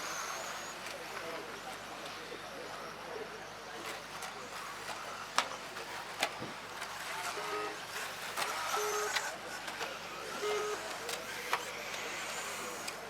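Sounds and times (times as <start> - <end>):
rc car motors and tyres: 0.0 - 13.0.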